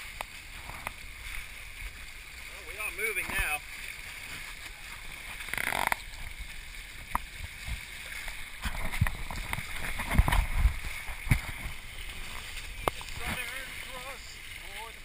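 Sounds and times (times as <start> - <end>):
water rushing past a hull: 0.0 - 15.0
waves slapping the hull: 0.0 - 15.0.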